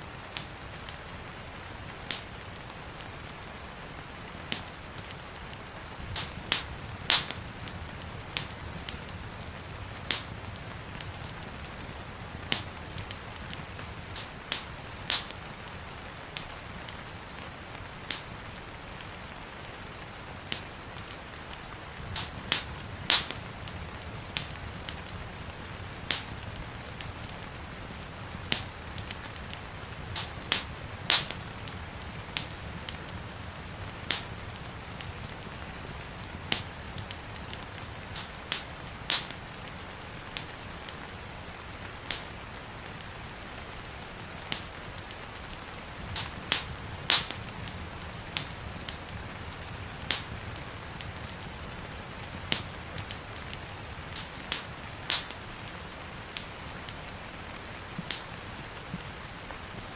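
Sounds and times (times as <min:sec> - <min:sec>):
gentle rain hissing: 0:00.0 - 0:59.9
wood fire crackling: 0:00.0 - 0:59.9.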